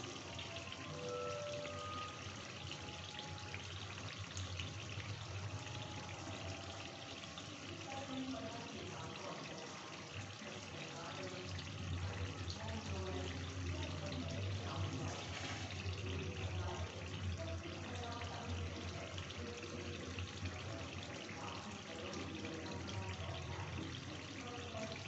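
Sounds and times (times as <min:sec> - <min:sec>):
gravy bubbling and sizzling: 0:00.0 - 0:25.0.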